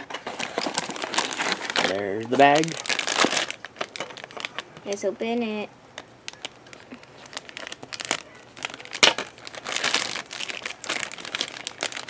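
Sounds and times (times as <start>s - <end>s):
foil bag crinkling: 0.0s - 12.0s
foil bag ripping: 0.0s - 12.0s.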